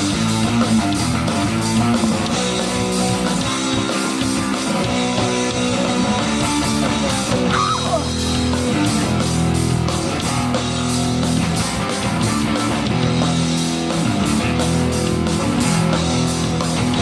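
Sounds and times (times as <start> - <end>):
bass: 0.0 - 17.0
distorted electric guitar chords: 0.0 - 17.0
drums with steady beat: 0.0 - 17.0.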